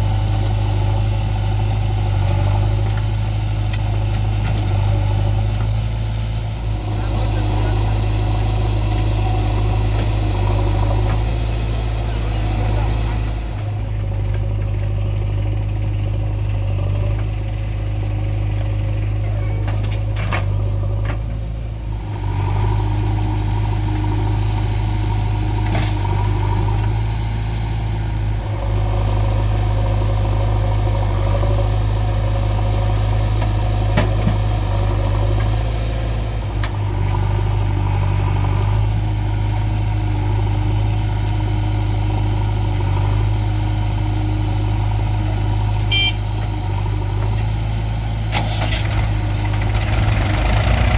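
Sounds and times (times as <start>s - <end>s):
diesel engines under load: 0.0s - 50.9s.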